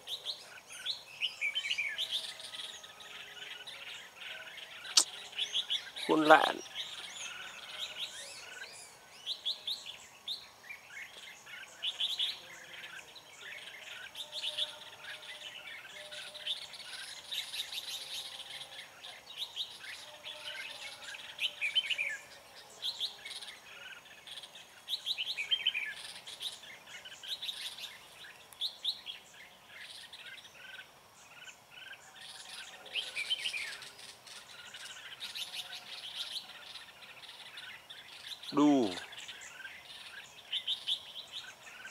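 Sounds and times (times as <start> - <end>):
birds chirping song: 0.0 - 41.9.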